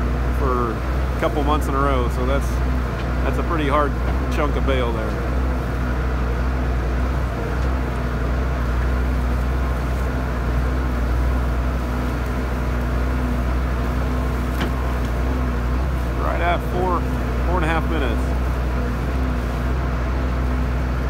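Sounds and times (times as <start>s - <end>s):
faint hum: 0.0s - 21.0s
feed mixer droning: 0.0s - 21.0s.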